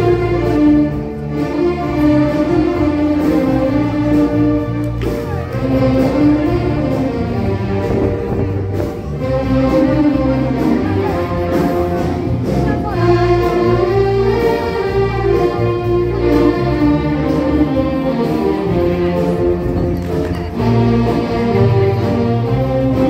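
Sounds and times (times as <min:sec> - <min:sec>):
band music playing: 0:00.0 - 0:23.0.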